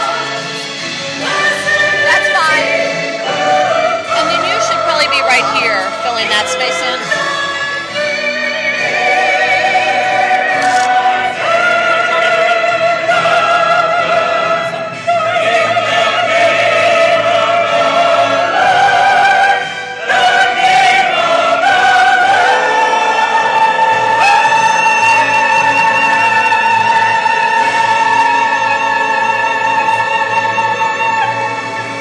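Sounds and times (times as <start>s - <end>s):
orchestral accompaniment: 0.0s - 32.0s.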